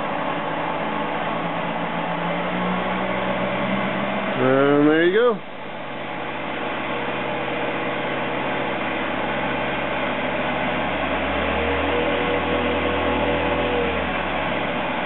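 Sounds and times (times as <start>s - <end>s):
deeper hum: 0.0s - 15.0s.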